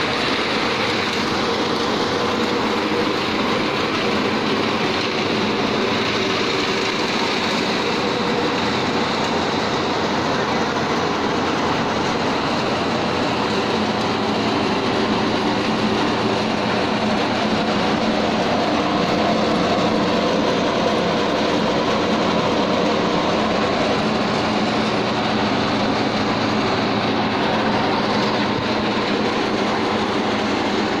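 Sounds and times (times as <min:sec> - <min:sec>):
chaff cutter running: 0:00.0 - 0:31.0.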